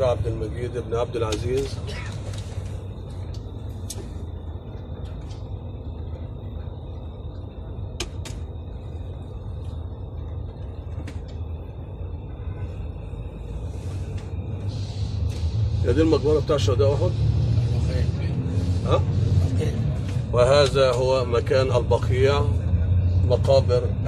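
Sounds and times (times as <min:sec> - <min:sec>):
bus engine and road rumble: 0:00.0 - 0:24.0
faint high whine: 0:00.0 - 0:24.0.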